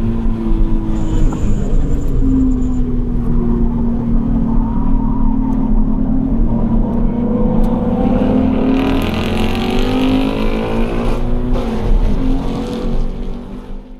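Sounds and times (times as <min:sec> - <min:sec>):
car engine accelerating hard: 0:00.0 - 0:13.9.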